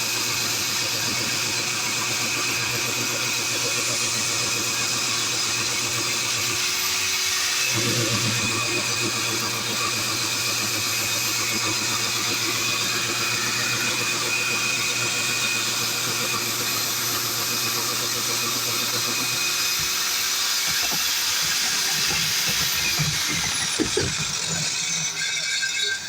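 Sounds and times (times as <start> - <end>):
core drill grinding concrete: 0.0 - 26.0.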